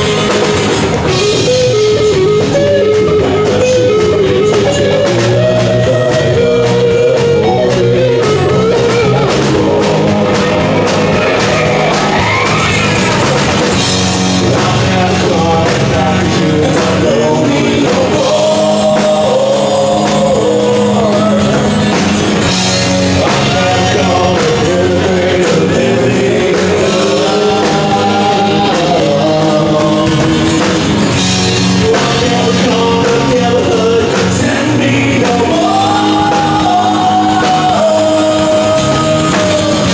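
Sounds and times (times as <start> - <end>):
rock band playing: 0.0 - 39.9
man singing: 1.0 - 12.5, 13.7 - 39.9.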